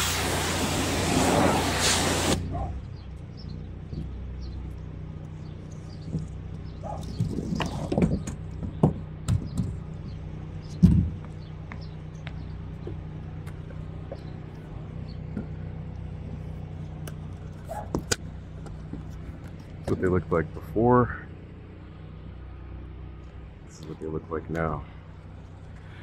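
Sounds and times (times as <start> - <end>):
steady low hum: 2.1 - 26.0.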